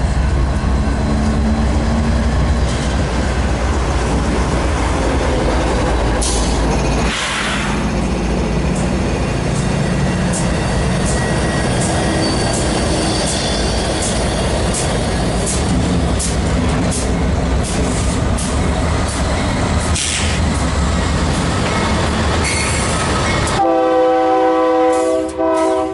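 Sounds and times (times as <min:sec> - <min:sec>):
train rumbling past: 0:00.0 - 0:25.9
train wheel clicks: 0:02.5 - 0:23.6.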